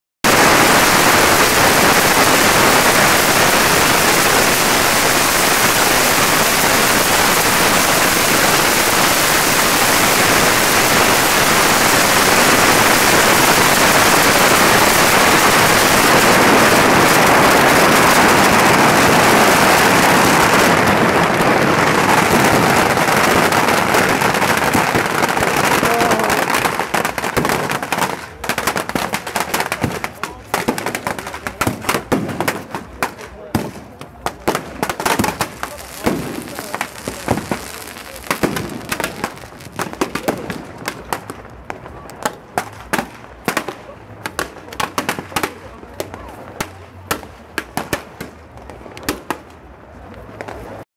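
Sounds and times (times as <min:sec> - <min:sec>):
sharp pops and bangs: 0:00.2 - 0:49.6
fireworks crackling: 0:00.2 - 0:50.8.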